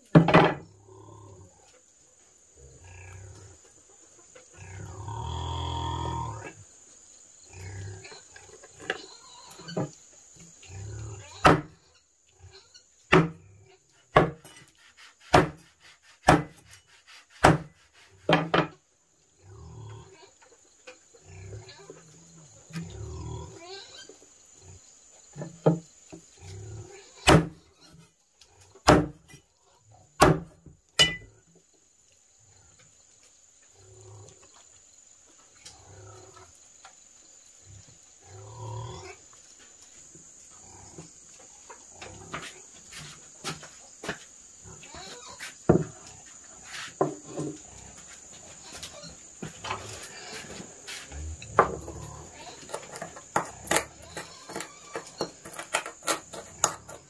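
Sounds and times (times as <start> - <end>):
crickets droning: 0.0 - 57.0.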